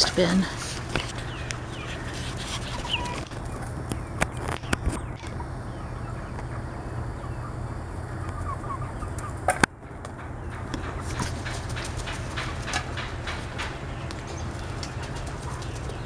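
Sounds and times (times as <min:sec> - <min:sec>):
chickens clucking softly: 0:00.0 - 0:16.0
steady low hum: 0:00.0 - 0:16.0.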